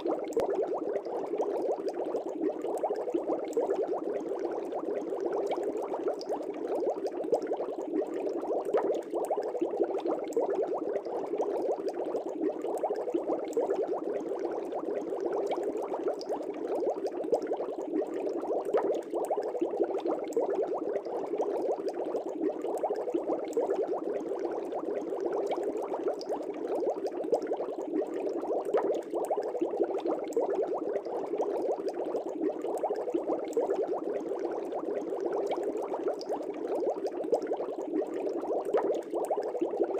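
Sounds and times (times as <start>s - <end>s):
fish tank air bubbling: 0.0s - 39.9s.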